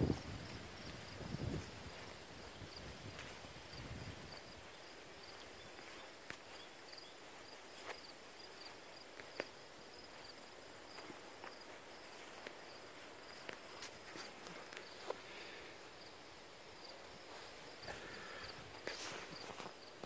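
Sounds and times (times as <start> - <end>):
insects chirping trill: 0.0 - 20.0.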